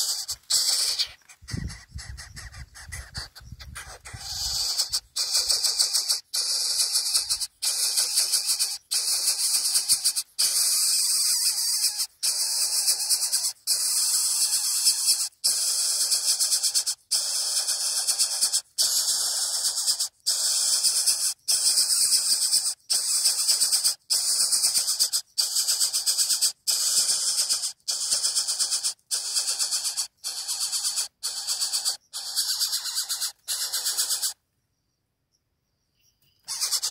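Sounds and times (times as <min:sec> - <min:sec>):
chick hissing begging calls: 0:00.0 - 0:34.4, 0:36.5 - 0:36.9.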